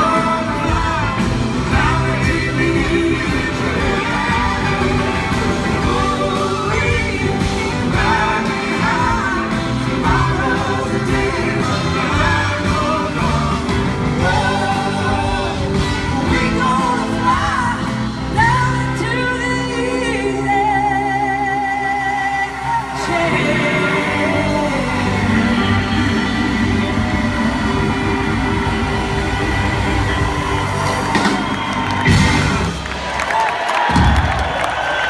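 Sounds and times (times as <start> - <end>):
sliding lead melody: 0.0 - 33.2
live rock band playing: 0.0 - 35.0.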